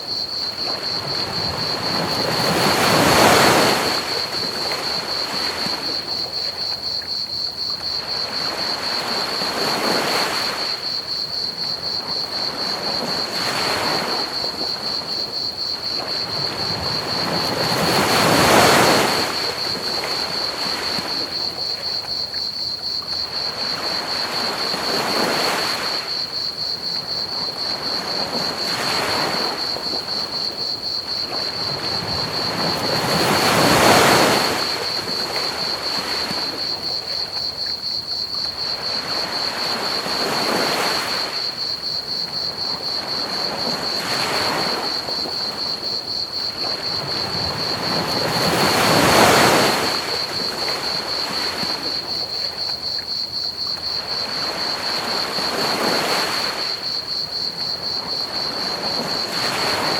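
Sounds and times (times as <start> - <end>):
crickets chirping: 0.0 - 59.9
ocean waves washing onto beach: 0.0 - 59.9
waves breaking: 0.0 - 59.9.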